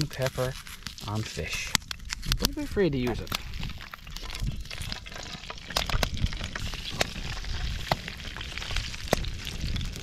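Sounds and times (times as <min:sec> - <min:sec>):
fish frying in a pan: 0:00.0 - 0:10.0.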